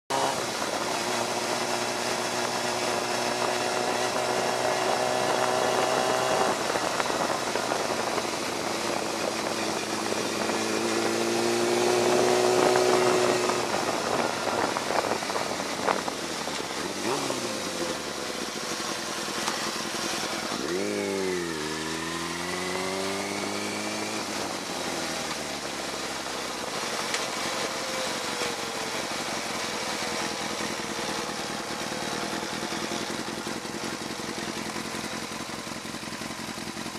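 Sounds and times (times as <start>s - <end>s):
motorcycle engine revving: 0.1s - 36.9s
wind and road noise: 0.1s - 36.9s.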